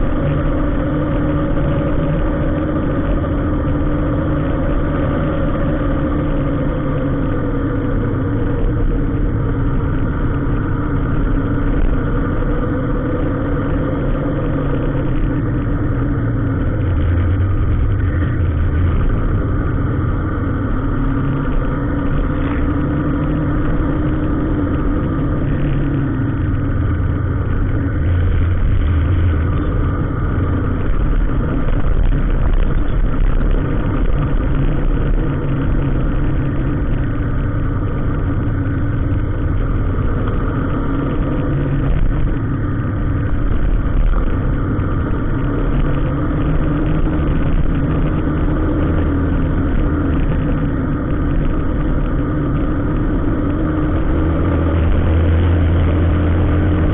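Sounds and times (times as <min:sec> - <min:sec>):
vehicle engine droning: 0:00.0 - 0:56.9.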